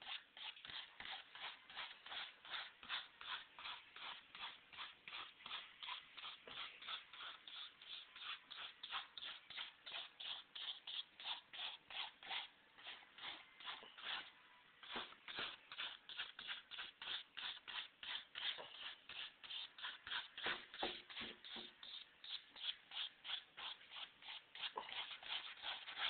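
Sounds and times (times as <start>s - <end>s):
brush scrubbing on canvas: 0.0s - 26.0s.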